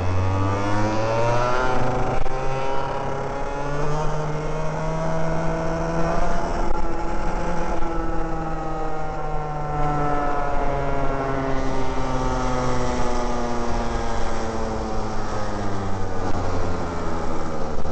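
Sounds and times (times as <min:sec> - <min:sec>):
kart engine running: 0:00.0 - 0:17.9.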